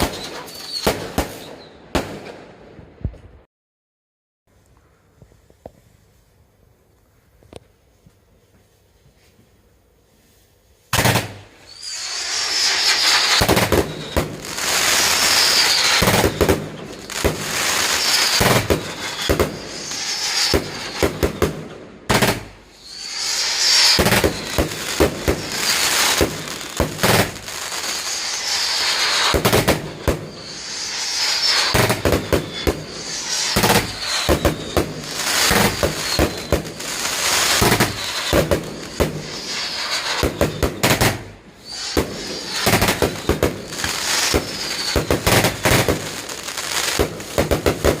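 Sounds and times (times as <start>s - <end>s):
fireworks crackling and hissing: 0.0s - 2.5s, 5.2s - 48.0s
fireworks sharp bangs: 0.0s - 2.7s, 10.9s - 48.0s.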